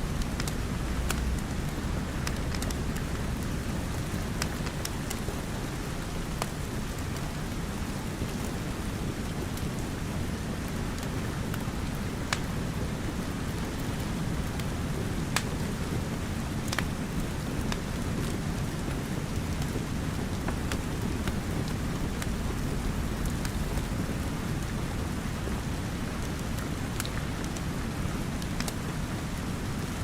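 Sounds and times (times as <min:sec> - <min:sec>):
steady rain: 0:00.0 - 0:30.0
wood fire crackling: 0:00.0 - 0:30.0.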